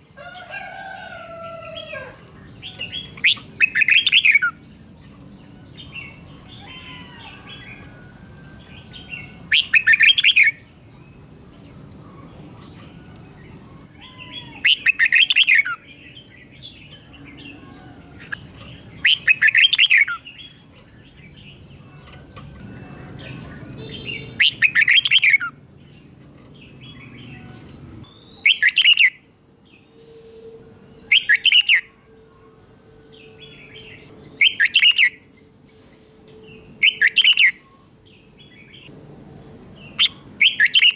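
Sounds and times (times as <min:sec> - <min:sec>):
bird song phrases: 0:00.0 - 0:38.9, 0:39.5 - 0:40.9.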